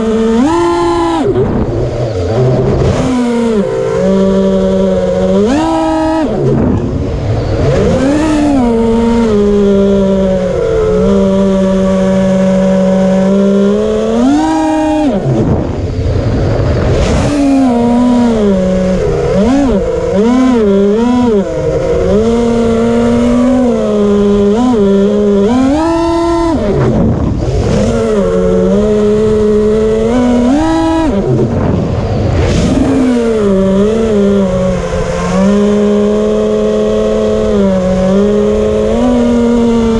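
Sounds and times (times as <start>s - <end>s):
drone motors whining and buzzing: 0.0s - 39.9s.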